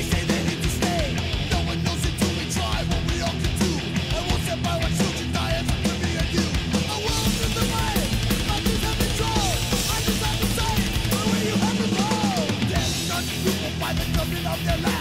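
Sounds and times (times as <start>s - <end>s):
thrash metal music: 0.0s - 15.0s.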